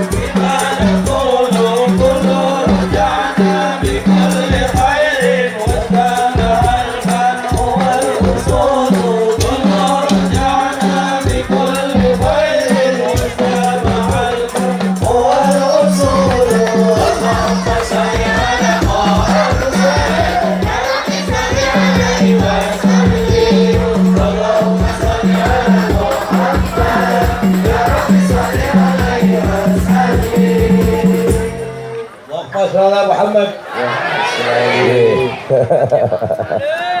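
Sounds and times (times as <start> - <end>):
rattling hand percussion: 0.0 - 31.8
group singing devotional song: 0.0 - 32.2, 33.3 - 36.6
steady percussion: 0.0 - 32.2.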